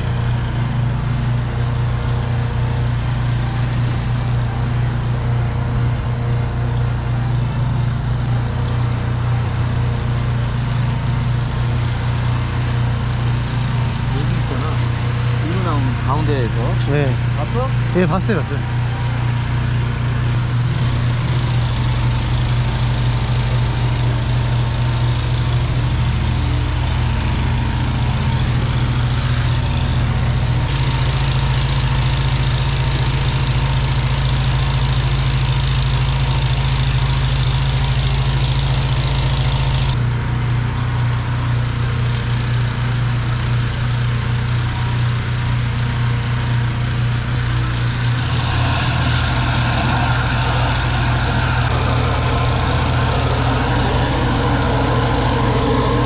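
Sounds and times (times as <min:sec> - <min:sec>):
drain-cleaning machine humming: 0:00.0 - 0:46.2, 0:47.4 - 0:56.0.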